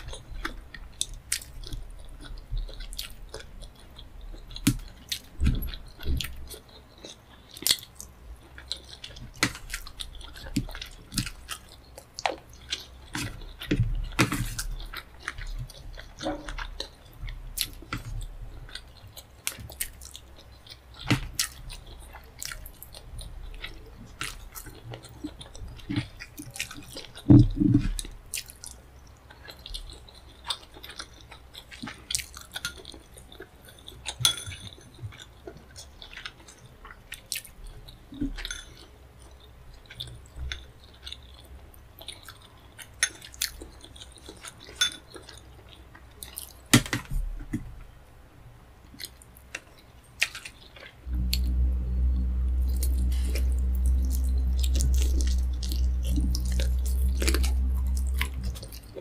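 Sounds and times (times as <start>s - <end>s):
person chewing food: 0.0s - 48.0s, 48.8s - 59.0s.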